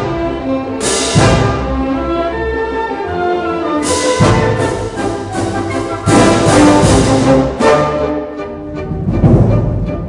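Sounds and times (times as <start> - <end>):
orchestral music with brass: 0.0 - 10.0.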